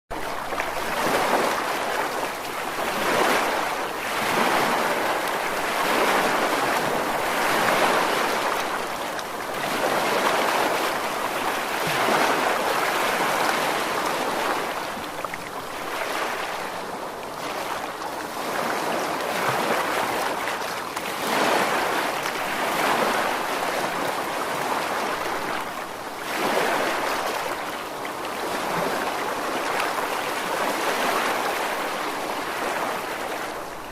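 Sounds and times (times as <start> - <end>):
rushing water: 0.1 - 33.9.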